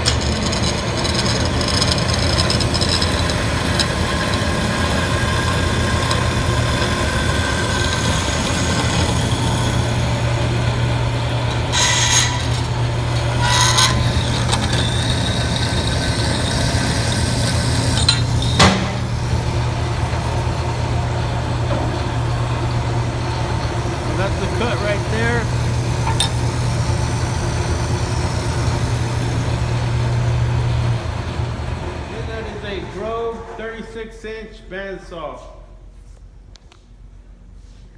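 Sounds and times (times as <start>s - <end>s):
rasping bursts: 0.0s - 30.9s
bandsaw humming: 0.0s - 33.8s.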